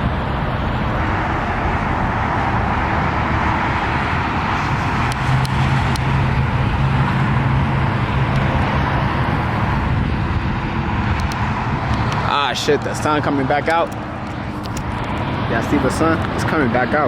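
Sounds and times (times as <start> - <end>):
engine hum: 0.0 - 17.0
tyre and road noise: 0.0 - 17.0.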